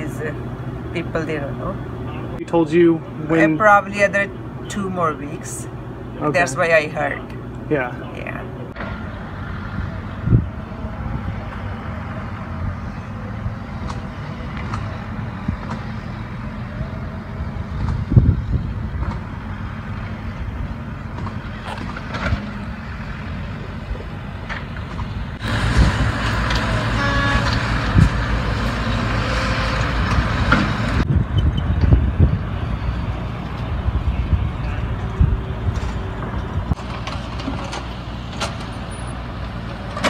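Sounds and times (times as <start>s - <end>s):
truck engines running: 0.0s - 40.0s.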